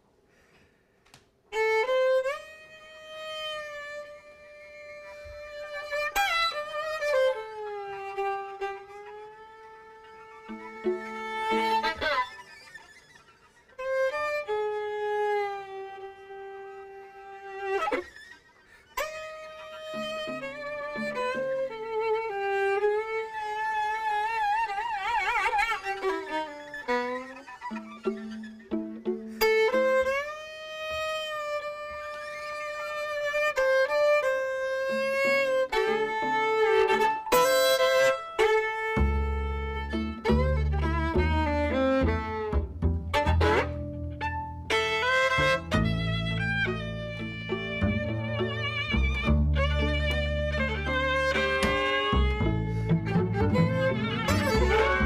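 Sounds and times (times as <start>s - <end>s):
bowed violin: 1.5s - 55.0s
string quintet playing: 1.5s - 55.0s.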